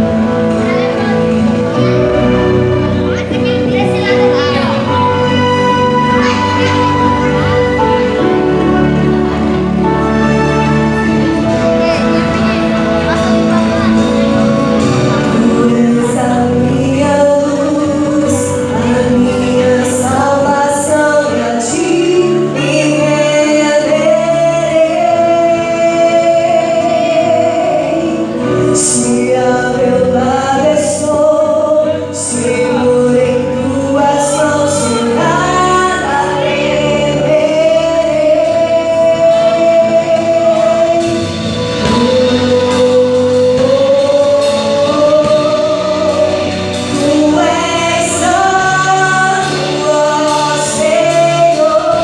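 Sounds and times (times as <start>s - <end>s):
gospel band playing: 0.0s - 52.0s
woman singing lead: 0.0s - 52.0s
backing voices singing: 4.6s - 52.0s.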